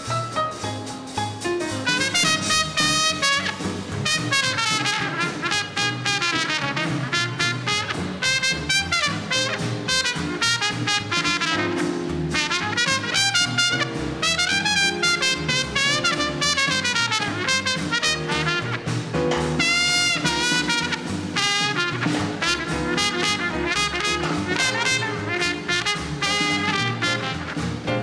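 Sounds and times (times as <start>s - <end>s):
swing band playing: 0.0s - 28.0s
trumpet with bent notes: 1.8s - 27.9s.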